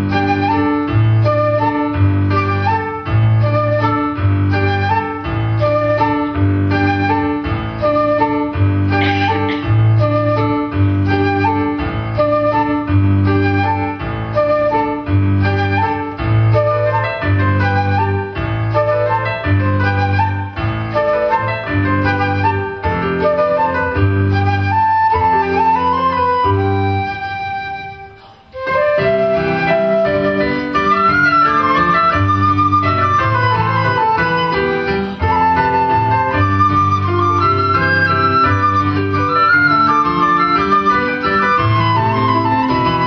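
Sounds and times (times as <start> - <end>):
flute melody: 0.0 - 43.0.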